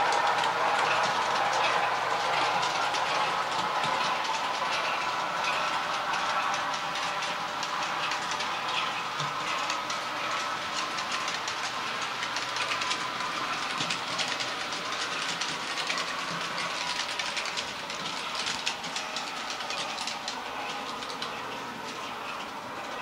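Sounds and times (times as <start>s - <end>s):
model train wheels clicking: 0.0s - 23.0s.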